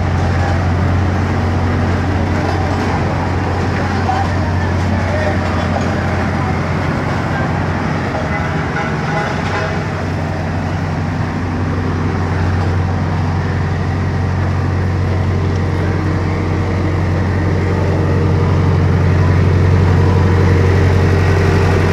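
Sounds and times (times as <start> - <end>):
diesel engine idling: 0.0 - 21.9
passing street traffic: 0.0 - 21.9.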